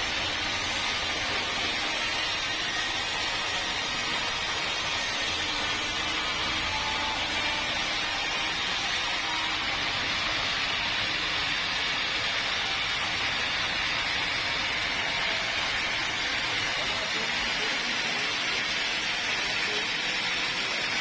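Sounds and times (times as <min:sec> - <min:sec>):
sawmill machinery rushing noise: 0:00.0 - 0:21.0.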